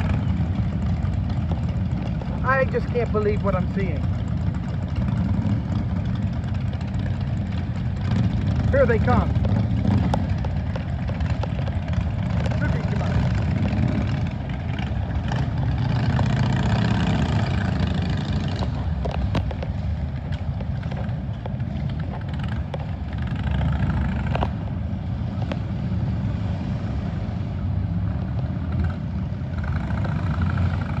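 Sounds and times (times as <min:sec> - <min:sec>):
motorcycles riding past: 0:00.0 - 0:31.0.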